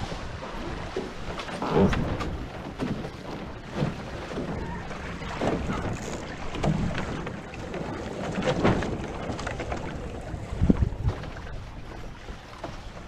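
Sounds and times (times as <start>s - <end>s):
wind buffeting microphone: 0.0s - 12.4s
water rushing along hulls: 0.0s - 13.0s
waves slapping hulls: 0.0s - 13.0s.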